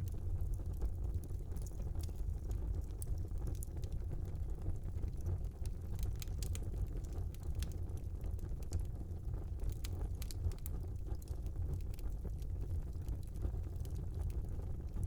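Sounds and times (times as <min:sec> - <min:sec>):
fire crackling and popping: 0:00.0 - 0:15.0
flames rumbling: 0:00.0 - 0:15.0.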